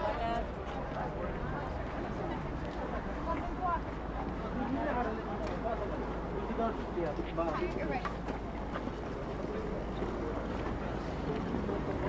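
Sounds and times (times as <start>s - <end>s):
faint voices of passers-by: 0.0s - 12.0s
low rumble of traffic: 0.0s - 12.0s.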